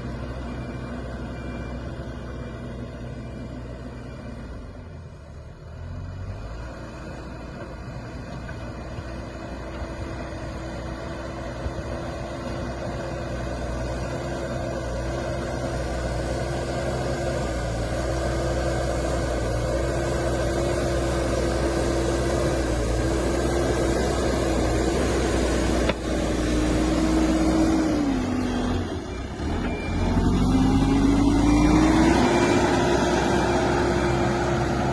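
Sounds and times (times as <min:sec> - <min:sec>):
diesel engine working under load: 0:00.0 - 0:34.9.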